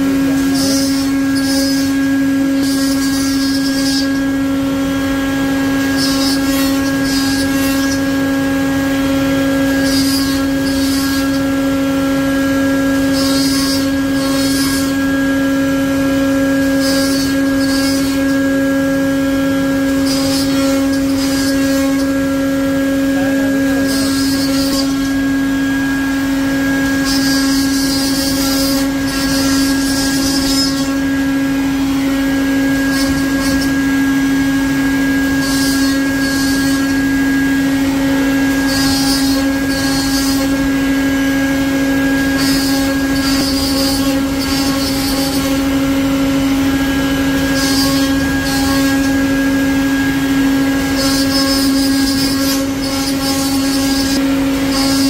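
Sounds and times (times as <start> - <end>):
router bit hissing through wood: 0.0 - 55.0
router spindle whine: 0.0 - 55.0.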